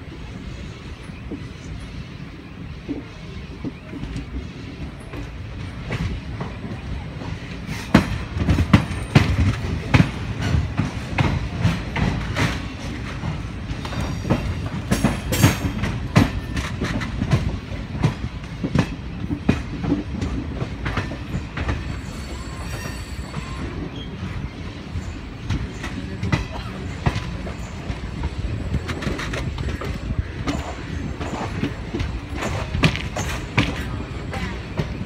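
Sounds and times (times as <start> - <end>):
low train rumble: 0.0 - 35.0
train wheels clattering over rail joints: 2.8 - 35.0.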